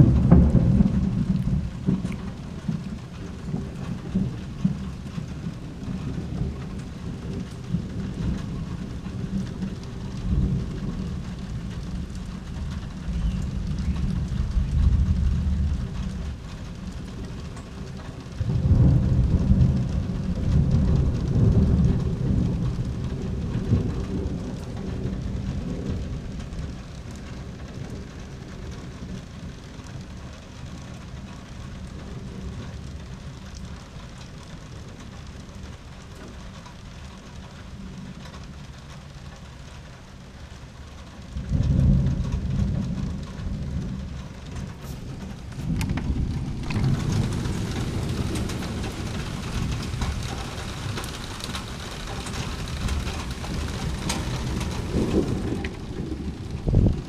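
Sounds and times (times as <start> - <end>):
steady rain falling: 0.0 - 57.0
thunder rumbling: 0.0 - 57.0.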